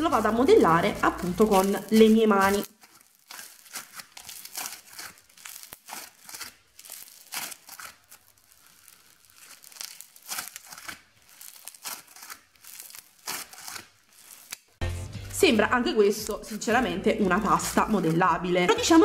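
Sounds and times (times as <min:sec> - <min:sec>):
slime beads crackling and popping: 0:00.0 - 0:14.8, 0:15.8 - 0:19.0.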